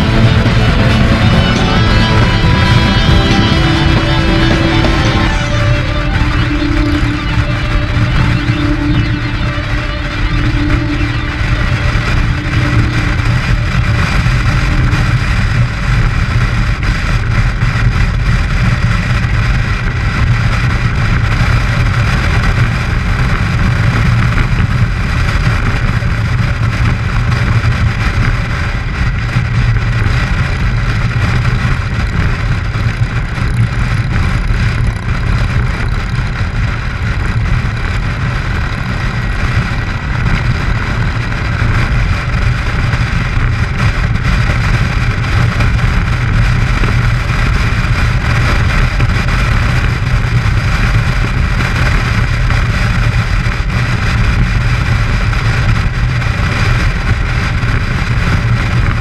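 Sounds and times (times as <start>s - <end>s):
motorcycle engine drone: 0.0s - 59.0s
wind rush: 0.0s - 59.0s.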